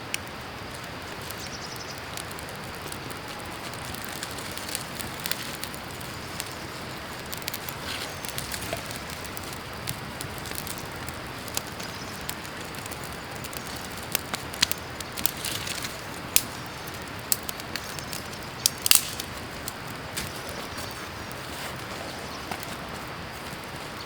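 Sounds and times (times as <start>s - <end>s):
sharp clicks and crackles: 0.0s - 22.8s
creek water running: 0.0s - 24.0s.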